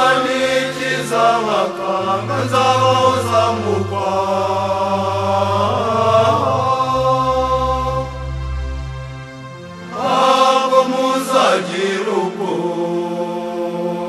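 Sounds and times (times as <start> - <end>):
voices singing chant-like melody: 0.0 - 14.0.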